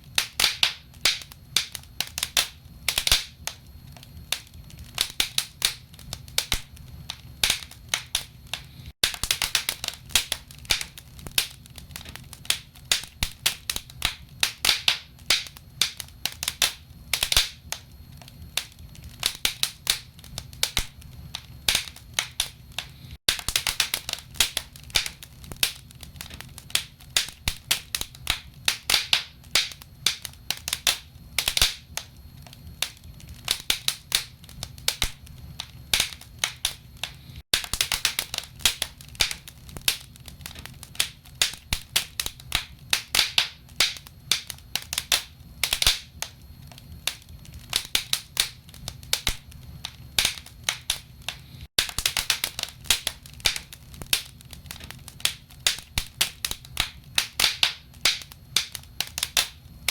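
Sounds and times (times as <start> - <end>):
logs crackling in fireplace: 0.0 - 59.9.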